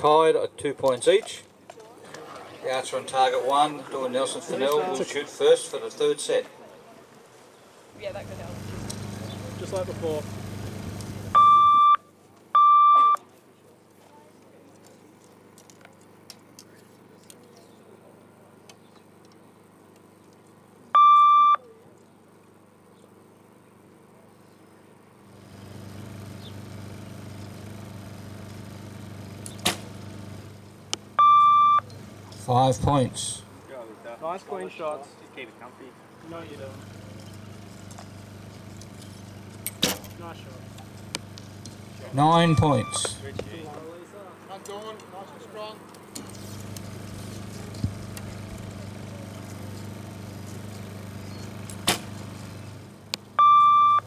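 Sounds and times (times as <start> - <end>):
steady low hum: 7.2 - 54.0.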